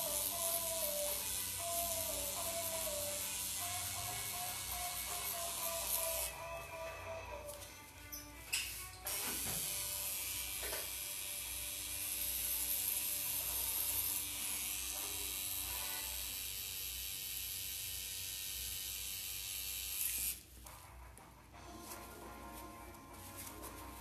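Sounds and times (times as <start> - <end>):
tattoo machine buzzing: 0.0 - 20.4.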